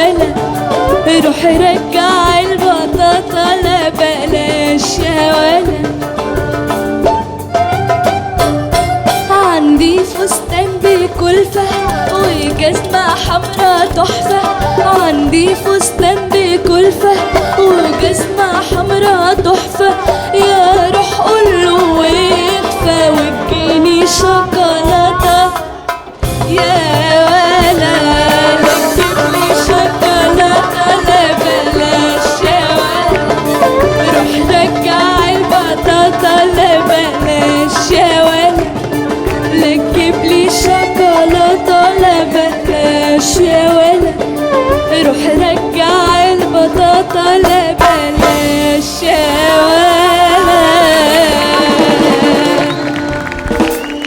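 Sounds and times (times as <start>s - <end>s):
ornamented melody line: 0.0s - 54.0s
steady percussion beat: 0.0s - 54.0s
person singing: 9.2s - 53.8s.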